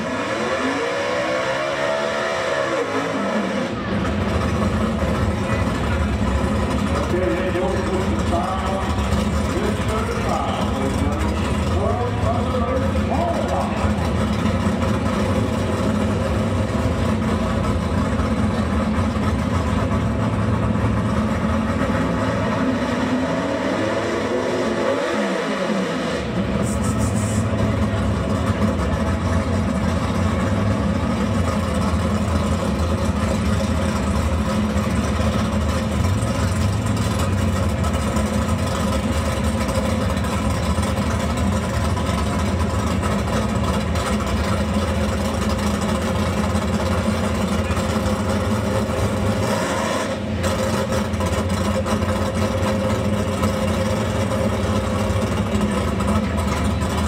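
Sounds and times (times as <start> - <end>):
car engine idling: 3.6 - 24.2, 25.7 - 57.0.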